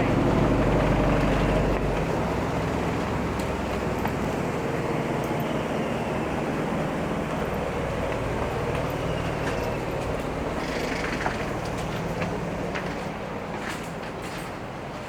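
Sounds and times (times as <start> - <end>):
ferry engine running: 0.0 - 15.0.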